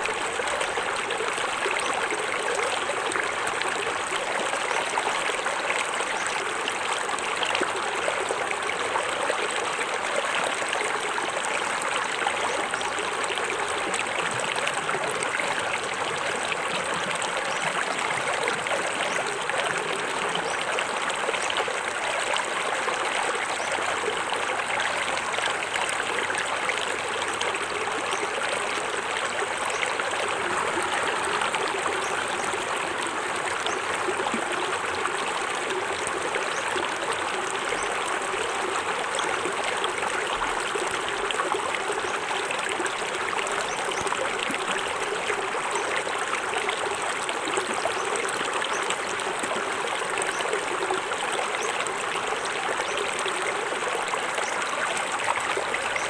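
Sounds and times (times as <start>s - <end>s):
water running over rocks: 0.0s - 56.0s.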